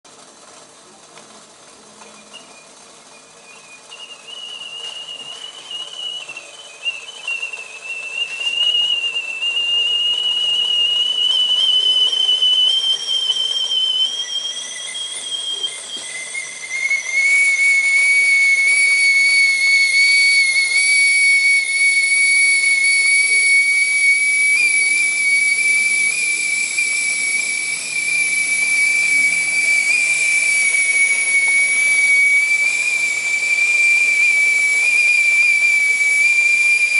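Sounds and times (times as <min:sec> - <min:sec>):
kettle steam whistle: 0:01.8 - 0:36.9.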